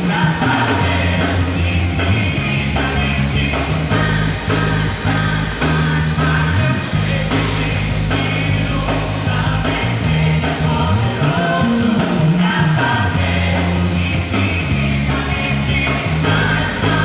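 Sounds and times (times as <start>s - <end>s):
bass line: 0.0s - 17.0s
live band with singing: 0.0s - 17.0s.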